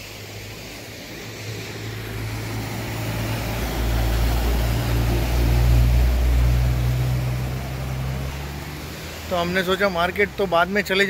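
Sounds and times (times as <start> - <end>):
water splashing around wheels: 0.0 - 11.0.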